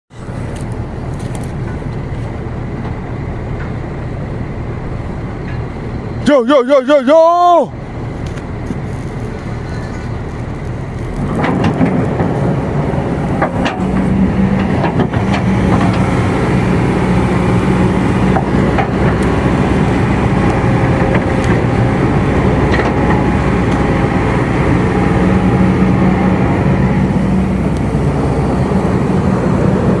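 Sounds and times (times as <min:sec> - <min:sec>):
excavator diesel engine running: 0:00.1 - 0:30.0.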